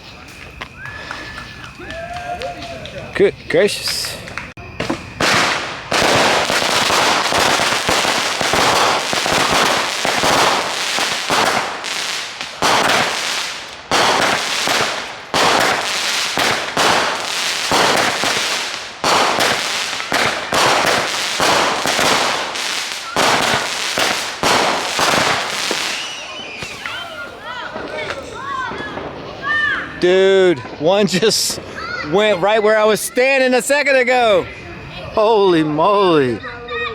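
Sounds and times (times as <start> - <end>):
fireworks banging: 0.0 - 32.1
fireworks crackling hiss: 0.0 - 35.0.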